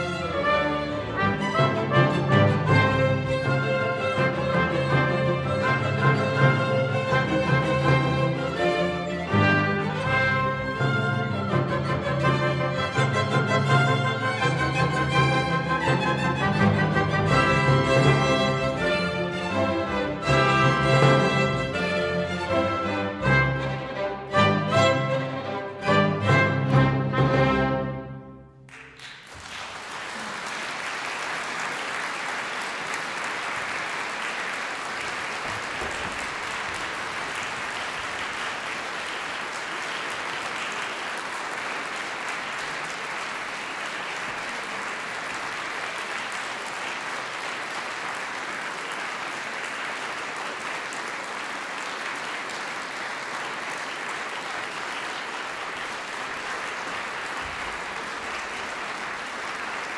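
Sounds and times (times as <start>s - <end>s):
audience applauding: 0.0s - 27.5s, 28.6s - 59.9s.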